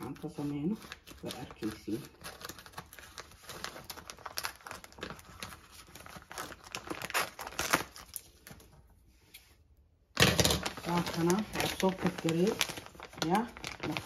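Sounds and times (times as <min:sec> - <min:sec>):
plastic packaging crinkling: 0:00.0 - 0:08.9, 0:10.1 - 0:14.0.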